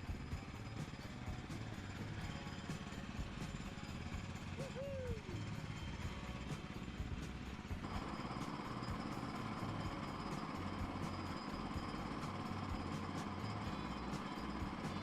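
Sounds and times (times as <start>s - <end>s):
sawmill engine running: 0.0s - 15.0s
steady high whine: 0.0s - 15.0s.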